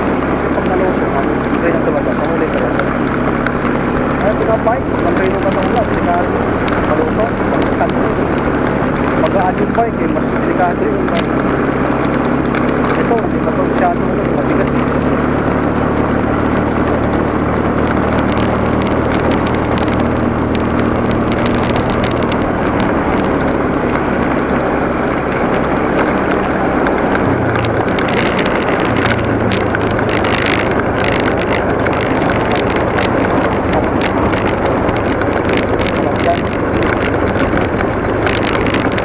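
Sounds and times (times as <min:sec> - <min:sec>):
motorcycle engine running: 0:00.0 - 0:39.0
wind noise on microphone: 0:00.0 - 0:39.0.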